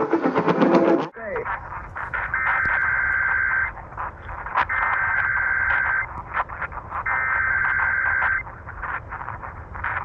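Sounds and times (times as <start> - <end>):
radio static: 0.0 - 10.0
buzzy digital data bursts: 1.2 - 10.0.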